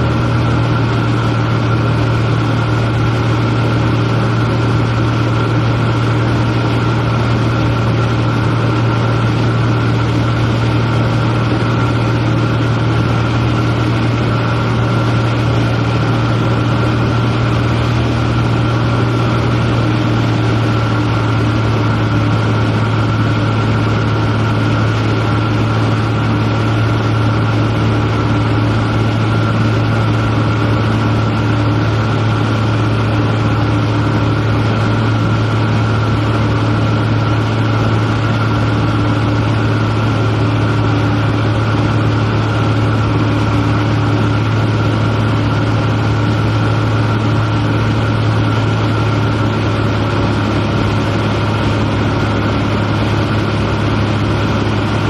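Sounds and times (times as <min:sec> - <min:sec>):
light airplane engine drone: 0:00.0 - 0:55.0.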